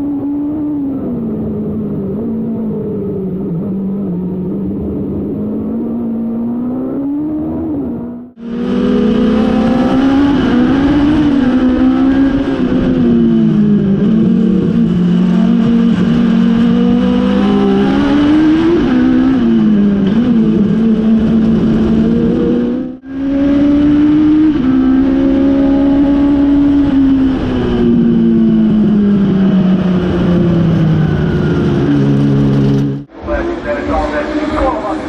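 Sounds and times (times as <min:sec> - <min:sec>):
race car engine at speed: 0:00.0 - 0:35.0.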